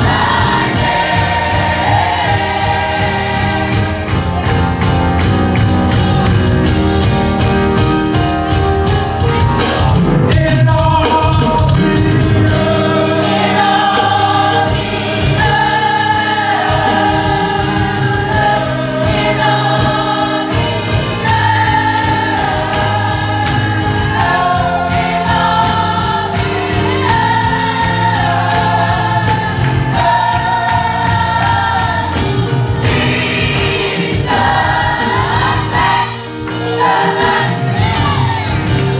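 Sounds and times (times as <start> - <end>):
gospel choir singing with instruments: 0.0 - 38.9.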